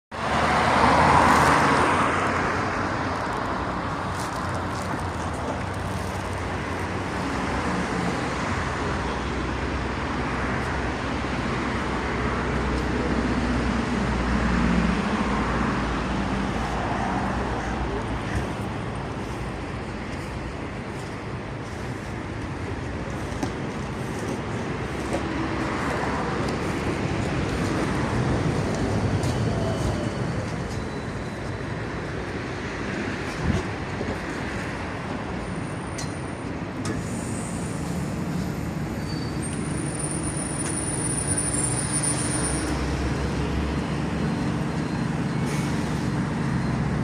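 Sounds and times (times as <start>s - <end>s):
road traffic noise: 0.1s - 47.0s
vehicle engine hum: 0.2s - 47.0s.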